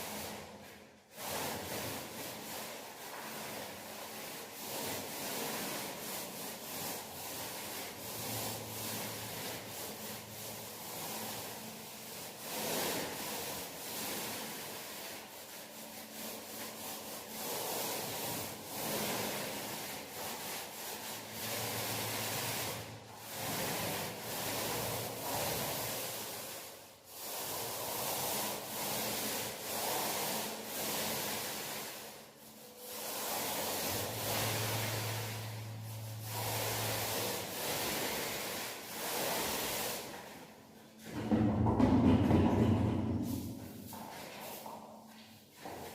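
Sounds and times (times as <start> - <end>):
paint roller rubbing on wall: 0.0 - 45.9.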